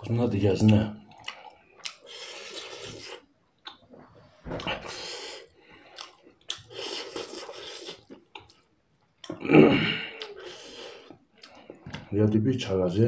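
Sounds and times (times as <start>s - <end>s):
person chewing noodles: 0.5s - 12.1s.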